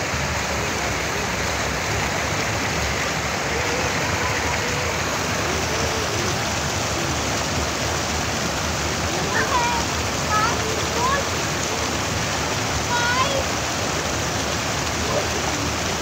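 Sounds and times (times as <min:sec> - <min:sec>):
water rushing over concrete edge: 0:00.0 - 0:16.0.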